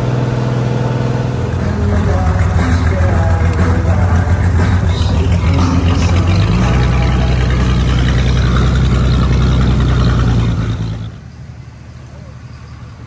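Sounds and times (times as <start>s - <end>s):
boat engine running: 0.0s - 11.4s.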